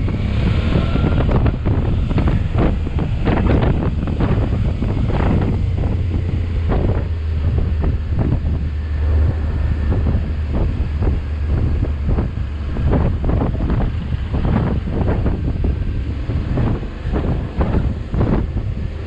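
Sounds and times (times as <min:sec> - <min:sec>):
motorcycle engine droning: 0:00.0 - 0:19.0
wind buffeting microphone: 0:00.0 - 0:19.0.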